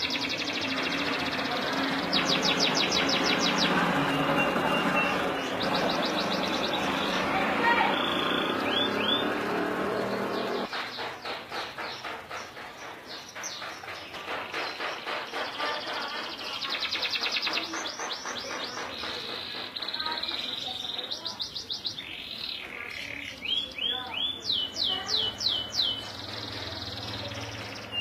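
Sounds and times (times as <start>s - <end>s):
canary singing: 0.0s - 10.8s, 11.8s - 28.0s.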